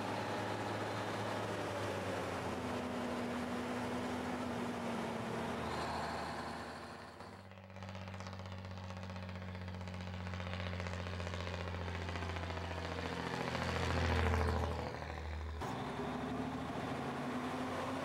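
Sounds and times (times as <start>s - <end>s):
distant engine drone: 0.0s - 18.0s
truck engine passing: 0.0s - 18.0s.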